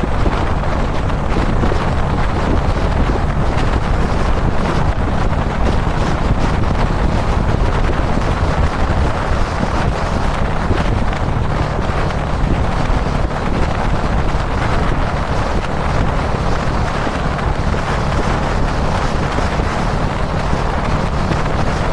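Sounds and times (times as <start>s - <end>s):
motorcycle engine running: 0.0s - 21.9s
wind buffeting microphone: 0.0s - 21.9s.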